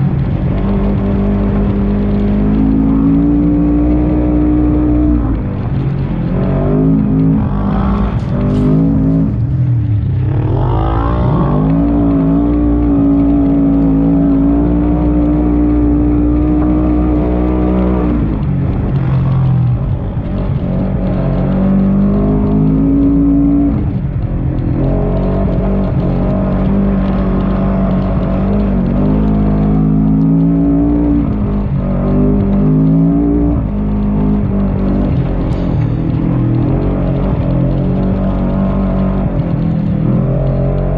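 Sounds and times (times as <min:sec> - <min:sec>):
utility vehicle engine revving: 0:00.0 - 0:40.9.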